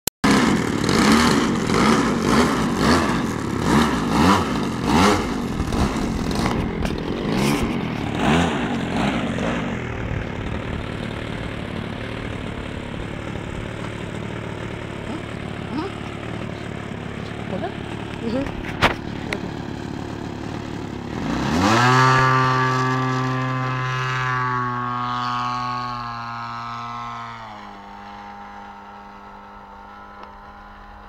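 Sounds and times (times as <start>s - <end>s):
model airplane engine revving: 0.2s - 31.0s.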